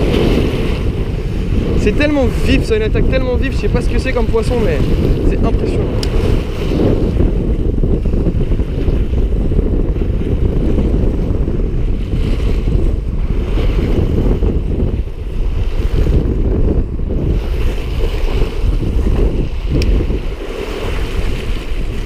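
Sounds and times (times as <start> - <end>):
sea waves breaking on rocks: 0.0 - 22.0
wind buffeting microphone: 0.0 - 22.0.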